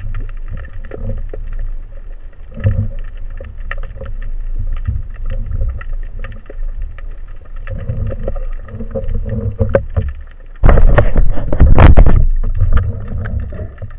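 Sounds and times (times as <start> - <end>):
underwater rumble of moving water: 0.0 - 13.9.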